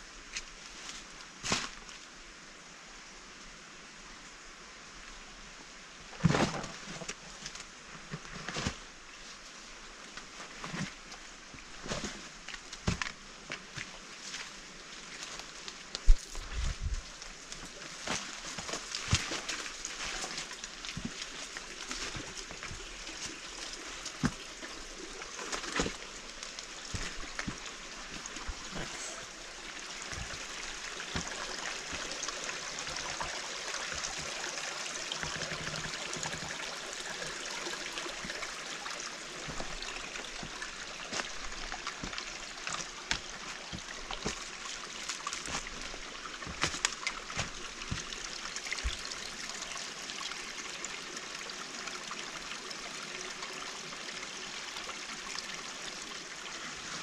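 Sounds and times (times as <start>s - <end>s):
running water rushing: 8.9s - 57.0s.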